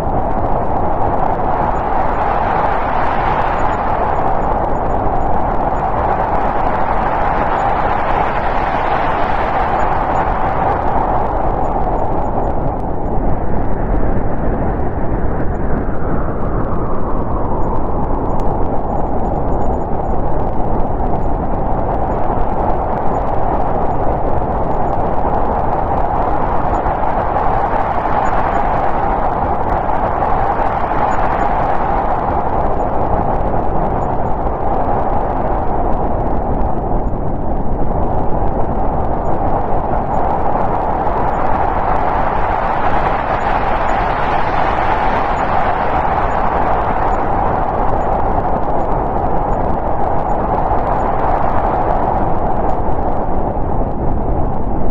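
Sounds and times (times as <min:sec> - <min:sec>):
snowstorm wind rushing: 0:00.0 - 0:54.9.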